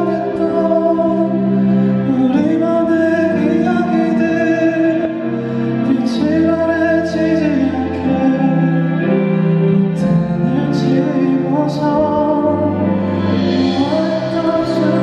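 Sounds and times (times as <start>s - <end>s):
instrumental accompaniment: 0.0s - 15.0s
man singing a slow ballad: 0.0s - 15.0s.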